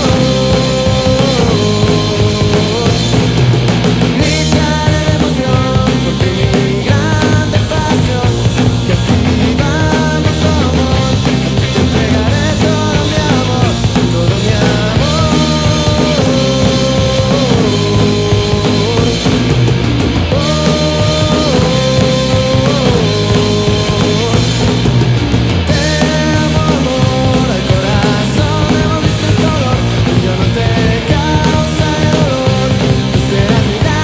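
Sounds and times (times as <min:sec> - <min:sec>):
rock song with full band: 0:00.0 - 0:34.0.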